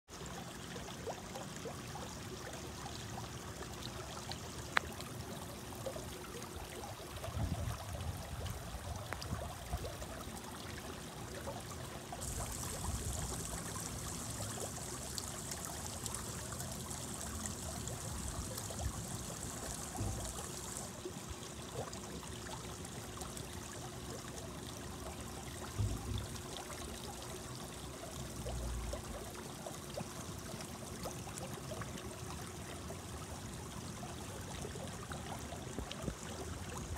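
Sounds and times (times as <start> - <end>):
pond water trickling and bubbling: 0.1 - 36.9.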